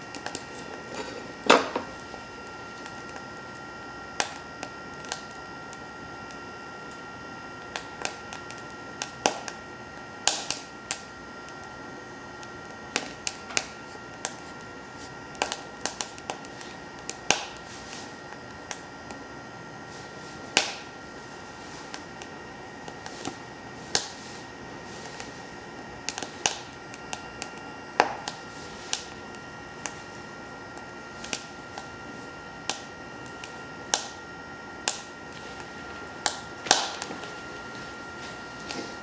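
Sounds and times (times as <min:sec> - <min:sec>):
stove fan whirring: 0:00.0 - 0:39.0
wood fire crackling and popping: 0:00.0 - 0:39.0.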